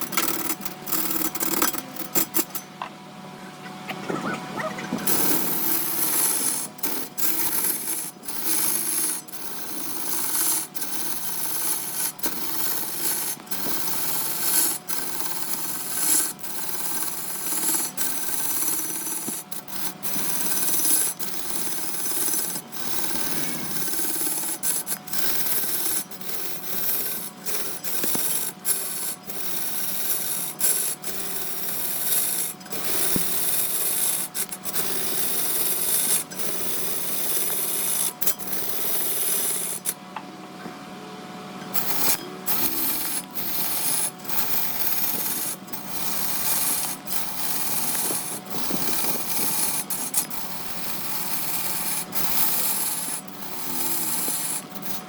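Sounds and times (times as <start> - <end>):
lathe tool rasping wood: 4.9 - 40.0, 41.8 - 55.0.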